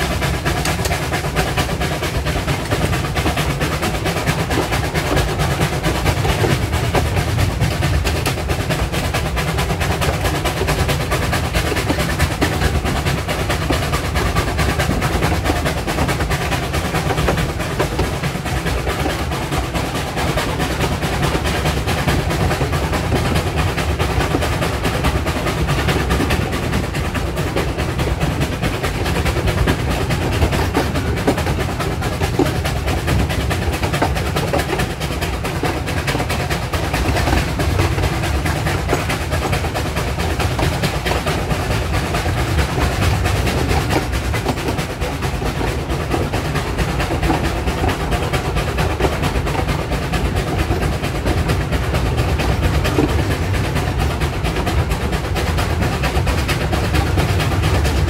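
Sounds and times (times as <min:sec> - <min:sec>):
steam locomotive exhaust beats: 0:00.0 - 0:58.0
wheels clattering on rail: 0:00.0 - 0:58.0.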